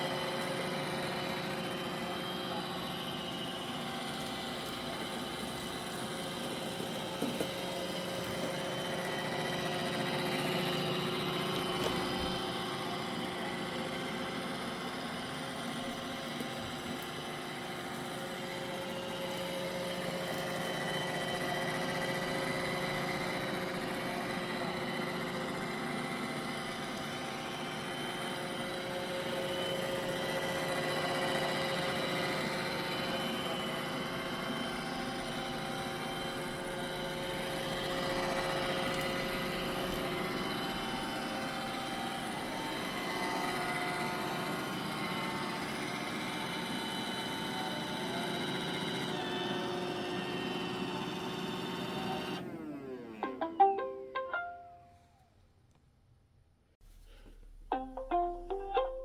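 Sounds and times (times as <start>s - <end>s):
robot vacuum whirring: 0.0s - 53.9s.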